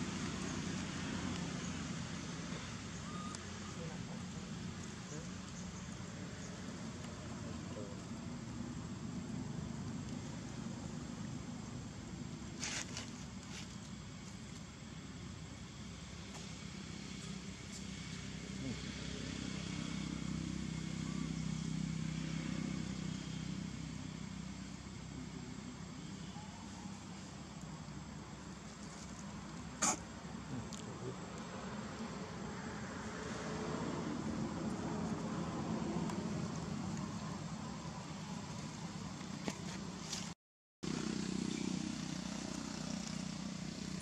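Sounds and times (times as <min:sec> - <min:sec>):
vehicle engine humming: 0:00.0 - 0:44.0.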